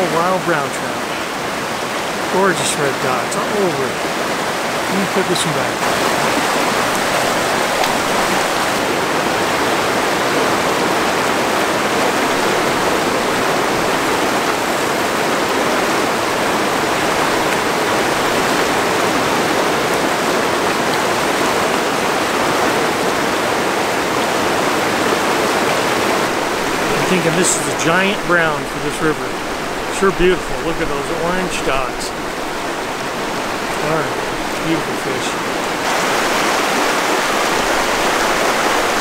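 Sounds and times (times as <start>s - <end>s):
mountain river rushing: 0.0s - 39.0s.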